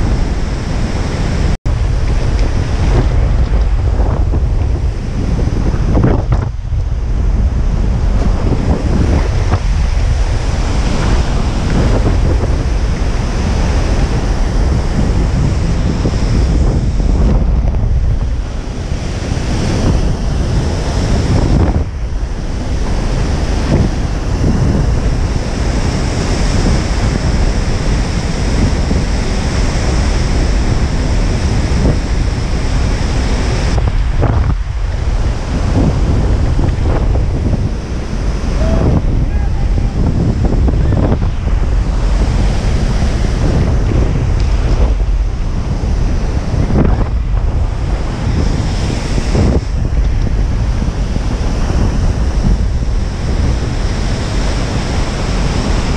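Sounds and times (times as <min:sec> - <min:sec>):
heavy surf breaking: 0:00.0 - 0:55.9
wind buffeting microphone: 0:00.0 - 0:55.9.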